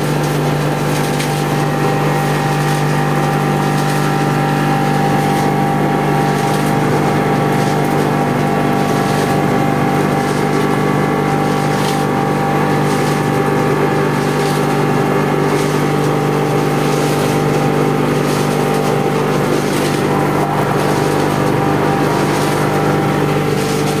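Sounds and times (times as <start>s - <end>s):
vibrating table humming: 0.0s - 24.0s.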